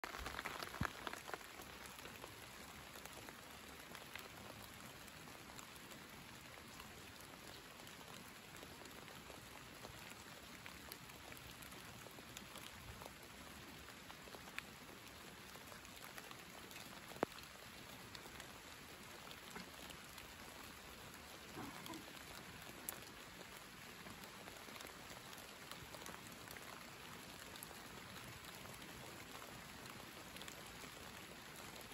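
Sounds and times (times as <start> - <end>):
light rain hissing: 0.0 - 31.9
raindrops tapping: 0.0 - 31.9.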